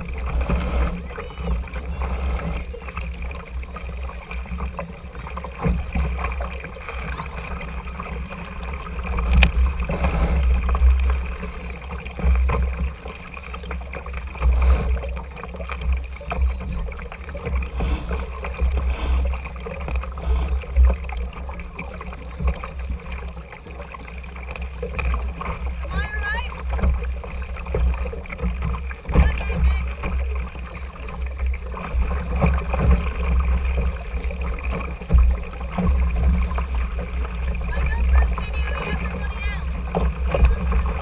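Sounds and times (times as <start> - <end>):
water splashing along hull: 0.0 - 41.0.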